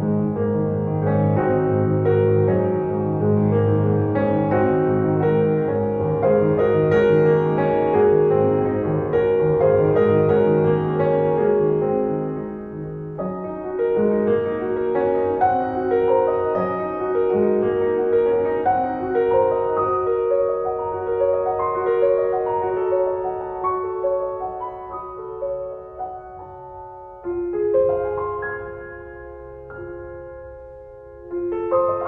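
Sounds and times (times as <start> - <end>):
slow piano music: 0.0 - 32.0.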